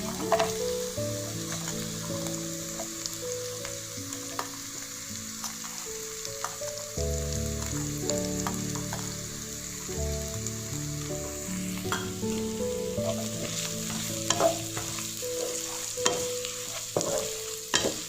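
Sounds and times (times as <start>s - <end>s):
background music: 0.0s - 18.0s
food sizzling in oil: 0.0s - 18.0s.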